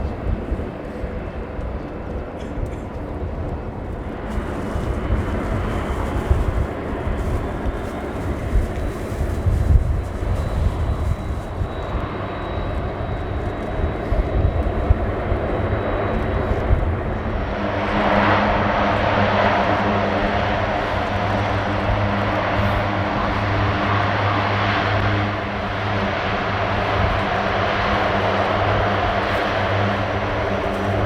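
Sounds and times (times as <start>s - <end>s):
turboprop engines running: 0.0s - 31.0s.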